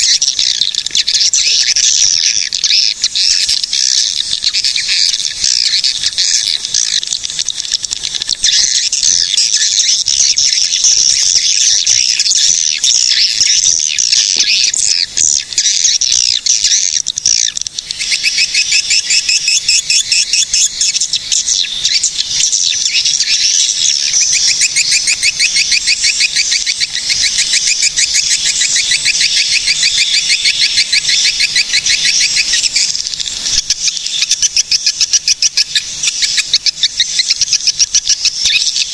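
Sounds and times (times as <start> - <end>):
swiftlets twittering: 0.0 - 38.9.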